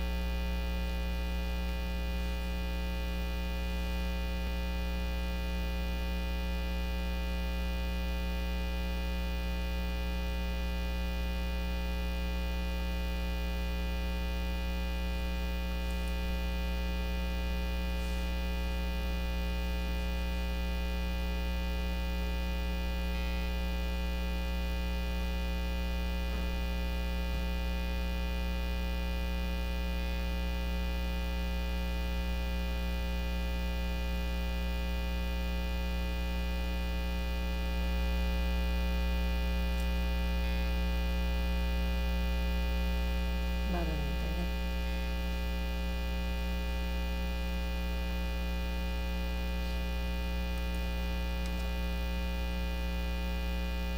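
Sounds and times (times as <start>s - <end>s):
electrical mains hum: 0.0s - 53.9s.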